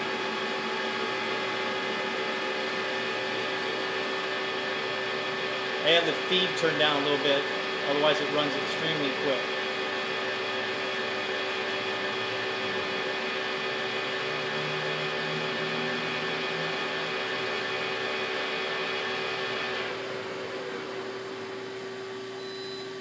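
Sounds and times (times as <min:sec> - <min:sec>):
lathe spindle whining: 0:00.0 - 0:22.2
steady machine hum: 0:00.0 - 0:23.0.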